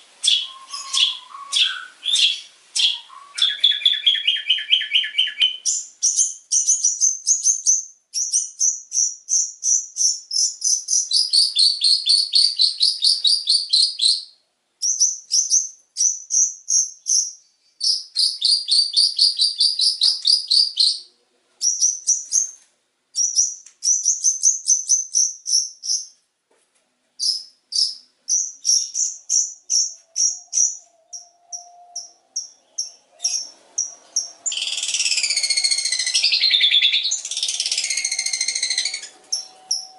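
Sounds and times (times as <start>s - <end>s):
bird rapid high chirps: 0.2s - 22.6s, 23.2s - 26.2s, 27.2s - 39.9s.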